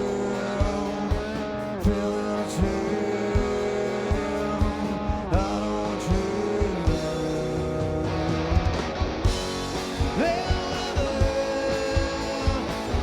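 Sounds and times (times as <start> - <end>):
drum beat: 0.0 - 13.0
electric guitar bending notes: 0.0 - 13.0.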